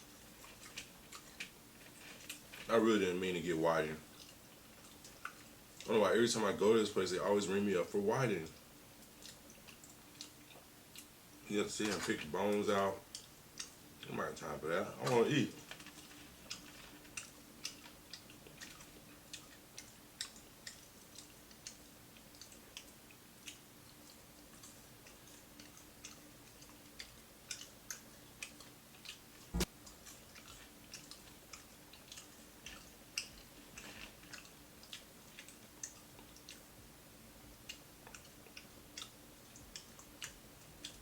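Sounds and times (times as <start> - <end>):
chewing crispy food: 0.0 - 41.0.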